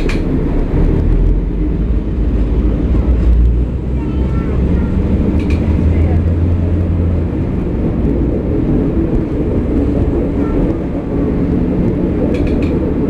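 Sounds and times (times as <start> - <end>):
diesel railcar engine rumbling: 0.0 - 13.0.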